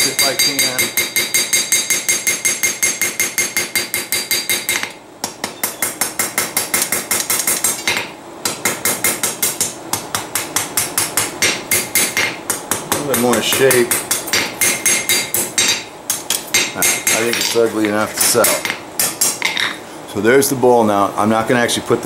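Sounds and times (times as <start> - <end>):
hammer striking steel on anvil: 0.0 - 19.8.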